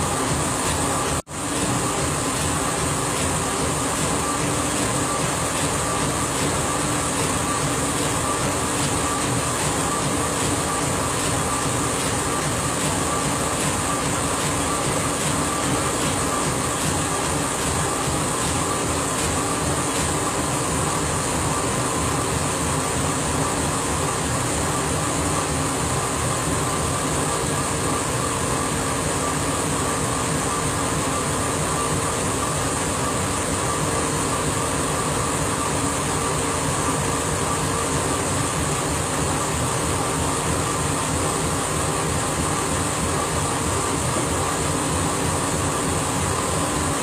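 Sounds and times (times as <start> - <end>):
laser engraver whirring and humming: 0.0 - 47.0.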